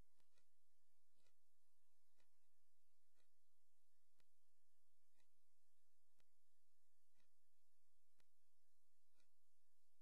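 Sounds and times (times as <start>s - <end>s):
faint low hum: 0.0s - 10.0s
faint ticks: 0.0s - 10.0s.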